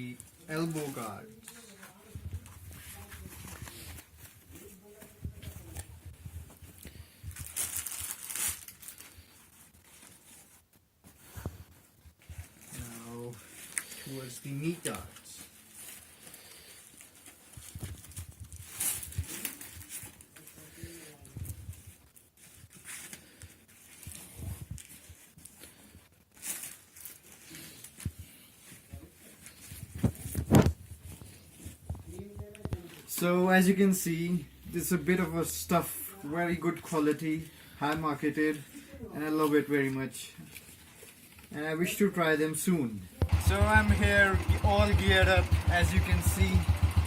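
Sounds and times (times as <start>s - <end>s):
packaging crinkling and rustling: 0.0s - 33.3s, 36.4s - 43.3s.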